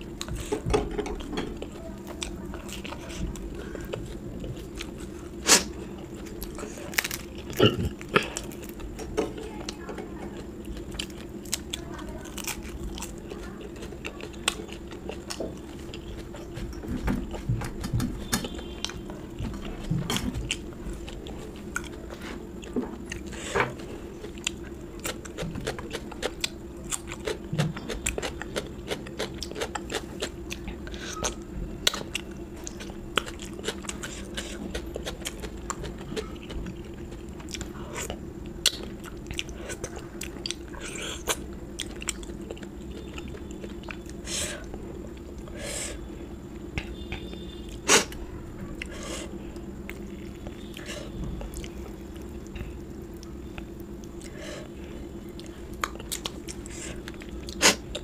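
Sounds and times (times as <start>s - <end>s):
chewing with crisp crunches: 0.0s - 58.0s
steady low hum: 0.0s - 58.0s.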